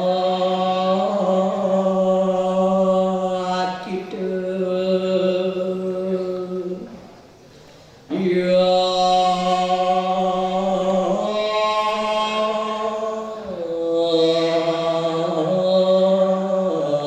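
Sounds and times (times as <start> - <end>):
solo voice chanting: 0.0 - 17.0.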